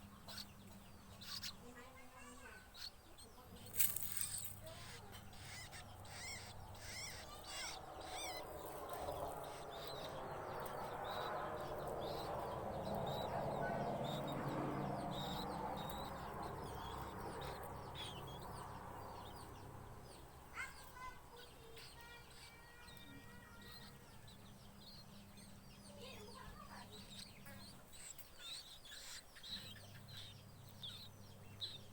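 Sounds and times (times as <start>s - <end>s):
fledgling bird chirping: 0.0s - 31.9s.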